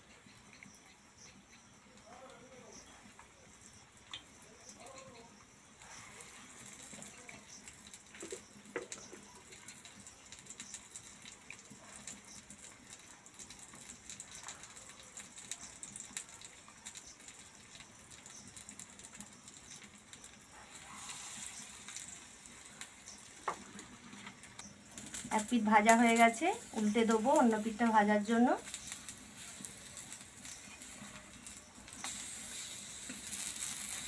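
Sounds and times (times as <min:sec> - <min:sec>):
leaves sizzling in oil: 0:00.0 - 0:34.0.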